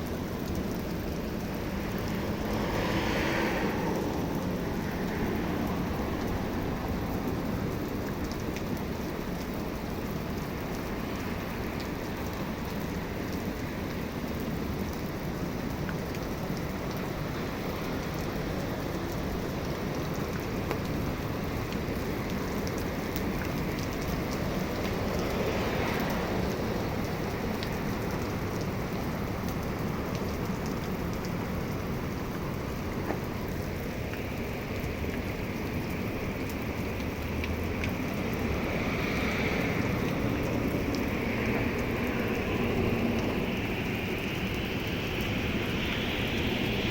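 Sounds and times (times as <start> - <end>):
heavy rain hissing: 0.0 - 46.9
raindrop ticks: 0.0 - 46.9.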